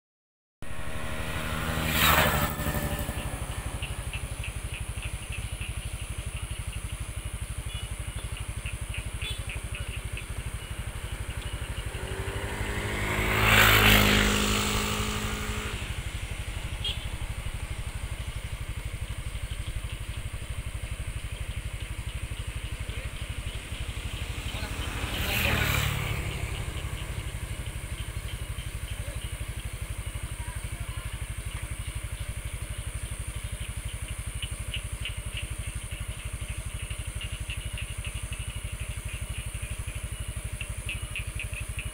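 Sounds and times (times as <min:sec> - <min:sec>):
vehicles passing: 0:00.6 - 0:41.9
higher ticking frog calls: 0:01.0 - 0:41.9
frog chorus pulsing: 0:01.2 - 0:41.9.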